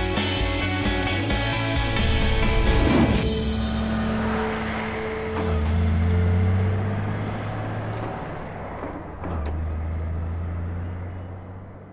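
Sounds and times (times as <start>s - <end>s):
vehicle engine rumbling: 0.8s - 11.9s.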